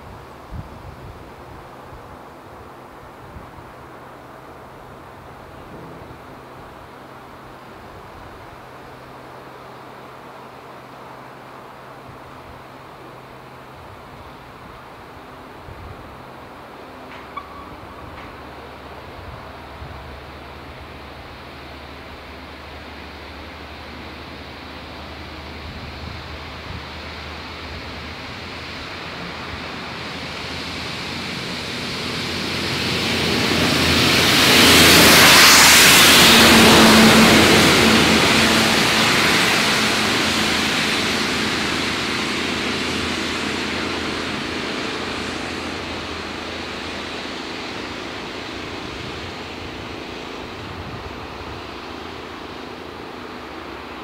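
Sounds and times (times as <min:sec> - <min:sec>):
diesel locomotive engine: 0:00.0 - 0:54.0
train wheel noise: 0:00.0 - 0:54.0.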